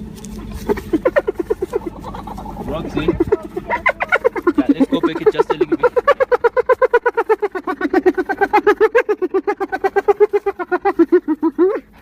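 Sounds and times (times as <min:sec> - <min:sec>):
hyena giggling hoots: 0:00.6 - 0:12.0.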